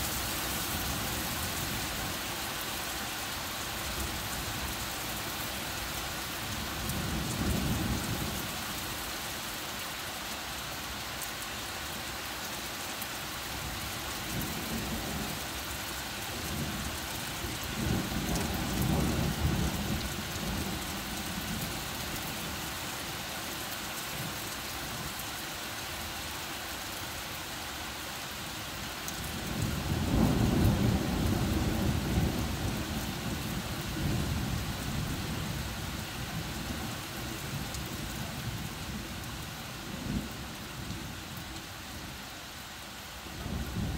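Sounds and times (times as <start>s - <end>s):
heavy rain on trees: 0.0s - 43.9s.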